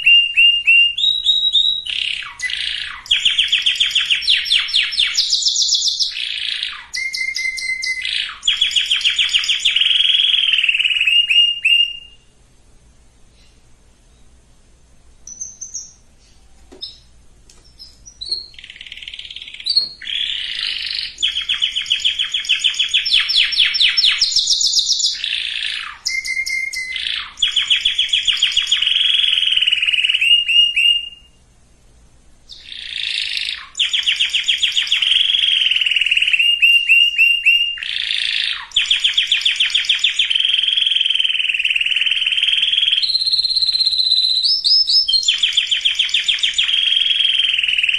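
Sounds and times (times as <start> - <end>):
canary singing trills: 0.0 - 12.4, 15.2 - 31.4, 32.5 - 47.9.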